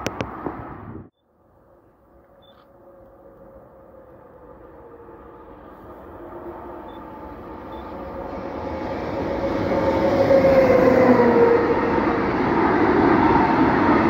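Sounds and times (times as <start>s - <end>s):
electric locomotive whine: 1.1s - 14.0s.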